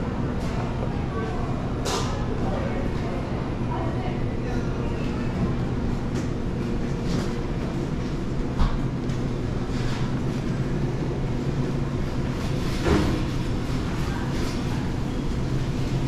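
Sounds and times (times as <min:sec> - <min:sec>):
grocery store ambience: 0:00.0 - 0:16.0.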